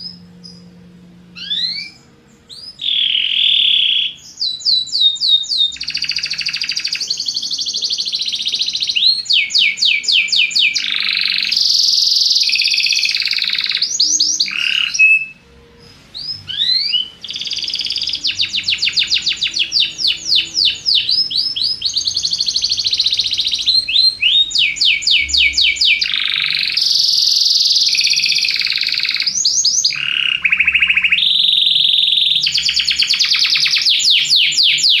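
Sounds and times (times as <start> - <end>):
canary singing trills: 0.0 - 35.0.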